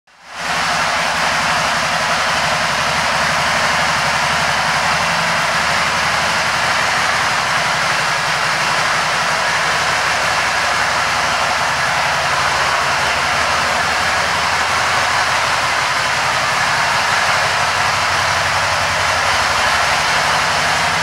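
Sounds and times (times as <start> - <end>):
engine idling: 0.2 - 21.0
loud constant hiss: 0.2 - 21.0.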